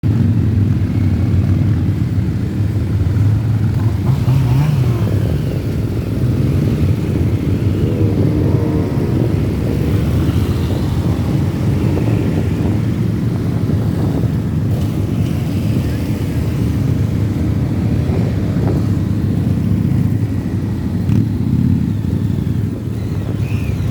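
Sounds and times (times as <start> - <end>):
group of motorcycles riding: 0.0 - 23.9.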